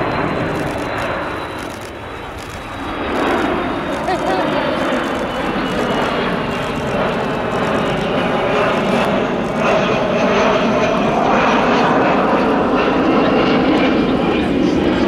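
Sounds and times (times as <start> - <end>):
jet engine rush: 0.0 - 15.0.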